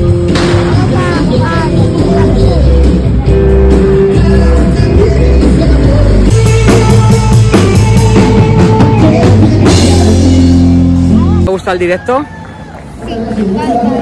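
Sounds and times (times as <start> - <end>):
drum kit beat: 0.0 - 11.5
rock band playing: 0.0 - 11.8.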